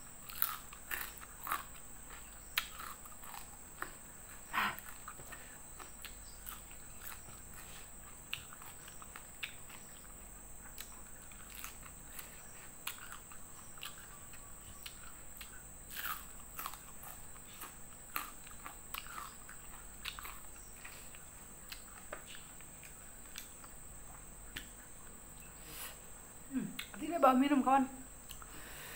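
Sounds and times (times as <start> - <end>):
high insect chirr: 0.0 - 28.9
chewing with mouth clicks: 0.2 - 25.1
food crunching: 0.2 - 25.2.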